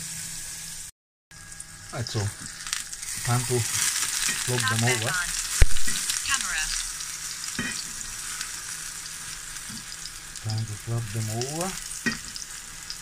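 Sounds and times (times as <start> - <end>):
mushrooms sizzling in oil: 0.0 - 13.0.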